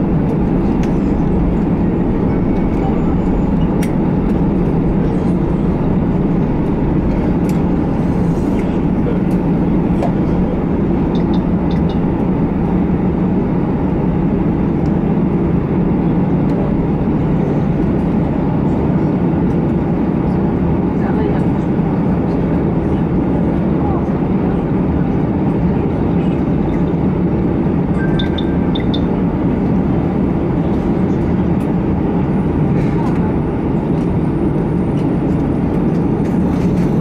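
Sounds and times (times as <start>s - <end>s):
jet engine cabin rumble: 0.0s - 37.0s.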